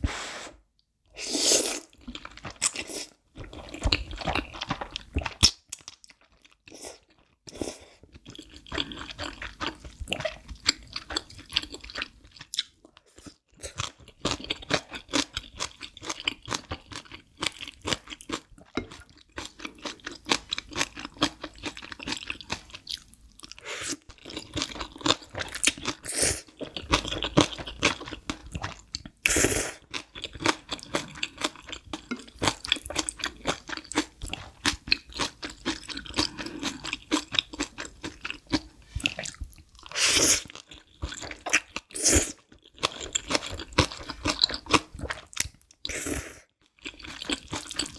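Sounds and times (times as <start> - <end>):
chewing noodles: 1.8 - 46.0, 46.6 - 47.9.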